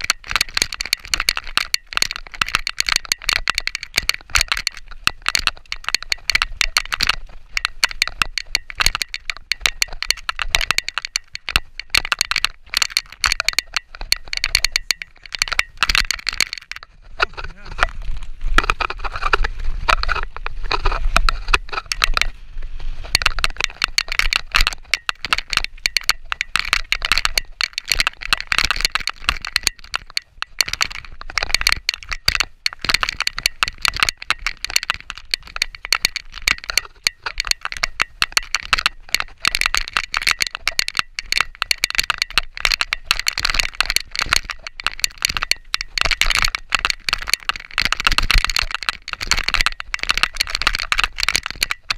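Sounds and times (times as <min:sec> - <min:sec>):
mountain bike rattling on trail: 0:00.0 - 0:51.9.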